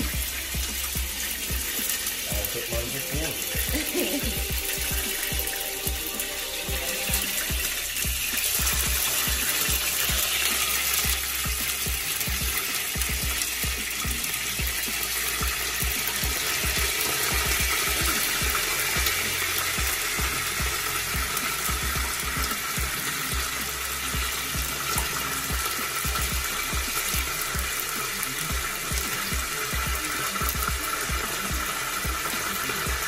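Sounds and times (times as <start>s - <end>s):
hot oil sizzling in a frying pan: 0.0s - 33.0s.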